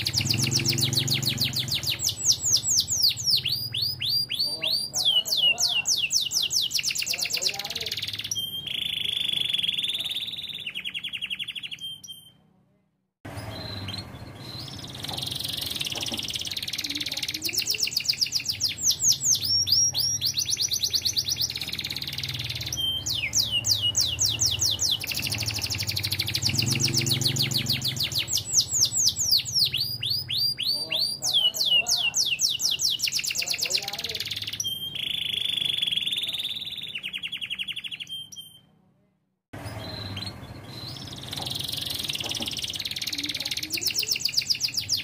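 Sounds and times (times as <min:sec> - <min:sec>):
canary singing trills: 0:00.0 - 0:12.4, 0:13.3 - 0:38.7, 0:39.6 - 0:45.0.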